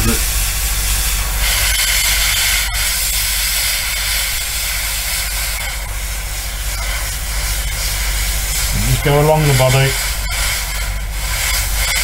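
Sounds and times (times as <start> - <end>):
airbrush hissing: 0.0 - 12.0.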